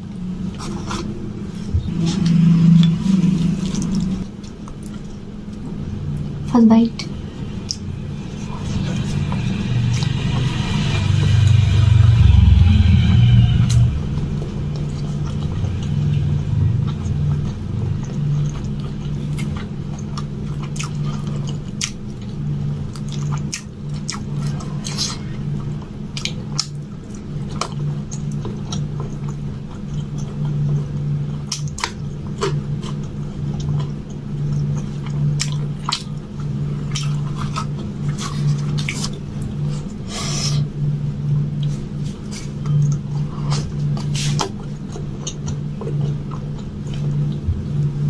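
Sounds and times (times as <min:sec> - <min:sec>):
chewing and mouth sounds: 0:00.0 - 0:06.5, 0:14.2 - 0:40.6, 0:41.6 - 0:48.0
steady low hum: 0:00.0 - 0:48.0.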